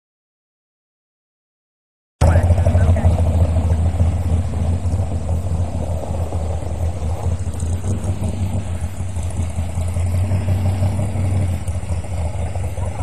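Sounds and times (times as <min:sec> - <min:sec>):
car engine running: 0:02.2 - 0:13.0.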